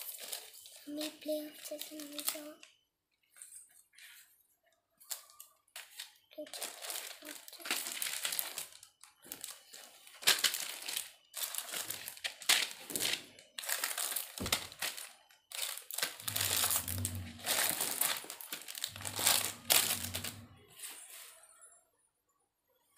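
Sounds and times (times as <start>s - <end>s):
plastic sleeves crinkling: 0.0s - 4.3s, 4.9s - 21.4s.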